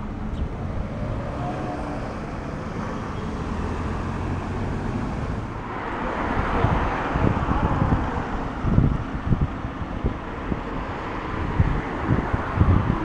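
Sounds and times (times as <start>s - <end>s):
passing road traffic: 0.0s - 13.0s
tram rumbling: 0.0s - 13.0s.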